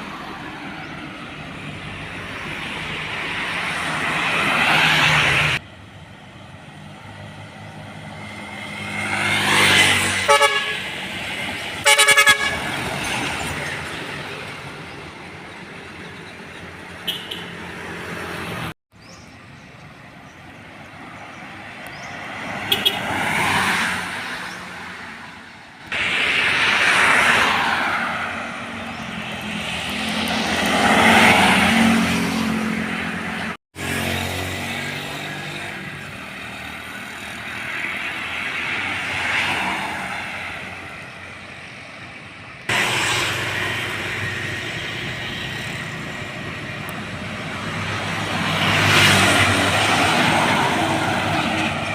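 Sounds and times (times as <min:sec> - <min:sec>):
heavy trucks passing: 0:00.0 - 0:51.9.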